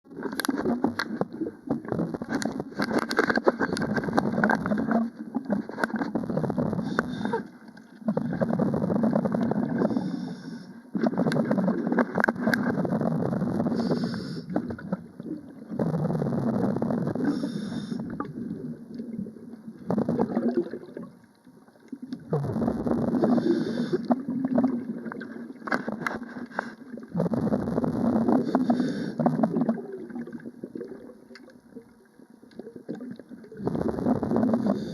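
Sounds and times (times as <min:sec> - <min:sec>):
bubbling gurgling water: 0:00.1 - 0:34.9.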